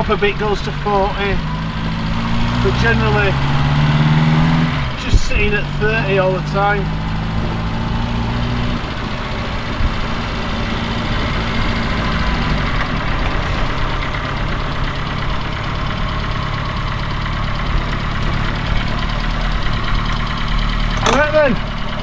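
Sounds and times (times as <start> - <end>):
car engine idling inside cabin: 0.0 - 4.1, 4.9 - 22.0.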